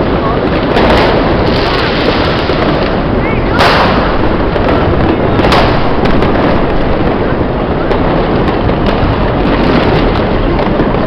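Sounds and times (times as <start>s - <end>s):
fireworks and firecrackers cracking: 0.0s - 11.0s
loud firework bang: 0.0s - 11.0s.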